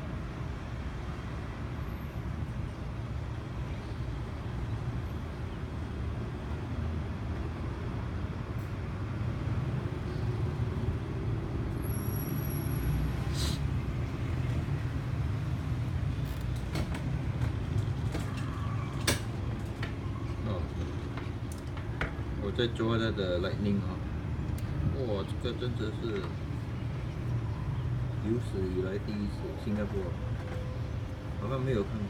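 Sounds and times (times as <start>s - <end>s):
low rumble of road traffic: 0.0s - 32.0s.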